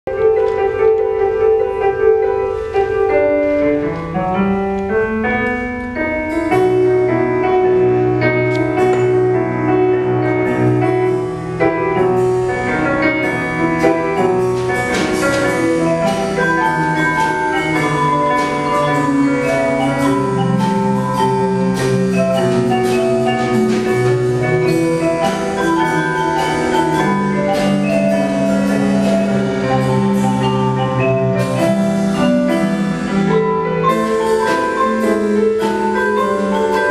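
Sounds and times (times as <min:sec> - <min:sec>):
piano chords: 0:00.0 - 0:36.9
drum kit strokes: 0:00.1 - 0:36.9
mallet percussion melody: 0:00.1 - 0:36.9.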